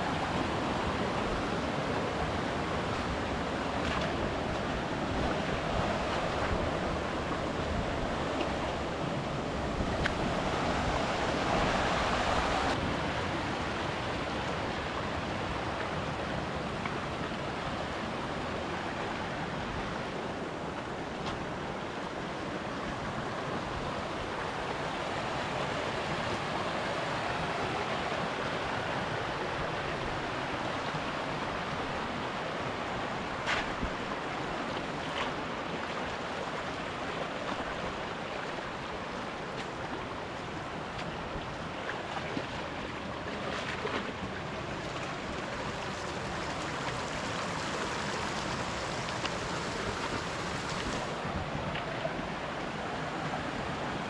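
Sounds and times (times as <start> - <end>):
mountain stream rushing over rocks: 0.0 - 54.0.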